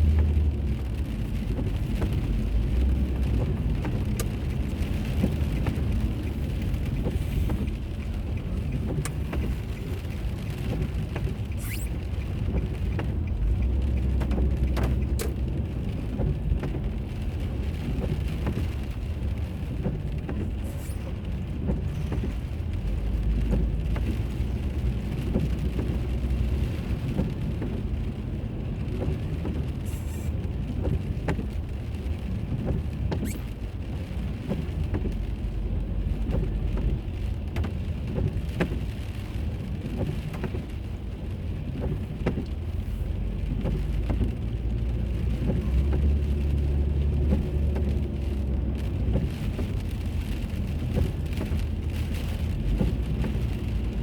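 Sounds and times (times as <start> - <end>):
car road and engine noise: 0.0 - 54.0
light ticks: 0.0 - 54.0.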